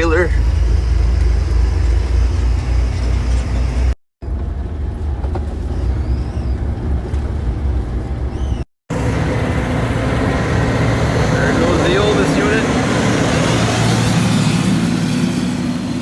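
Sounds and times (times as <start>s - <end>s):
heavy farm vehicle engine droning: 0.0s - 16.0s.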